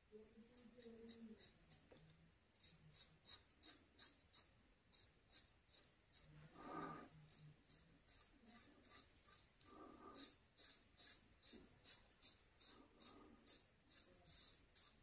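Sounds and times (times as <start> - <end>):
razor scraping stubble: 0.5 - 1.9, 2.6 - 15.0.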